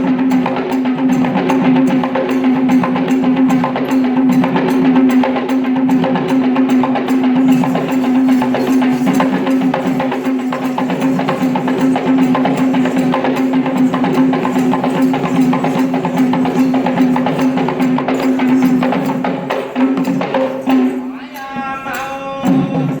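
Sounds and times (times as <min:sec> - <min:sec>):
fast drum strokes: 0:00.0 - 0:23.0.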